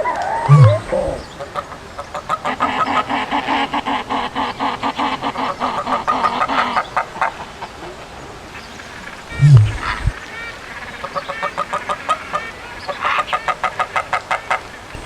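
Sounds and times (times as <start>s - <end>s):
creature clucking chatter: 0.0s - 15.0s.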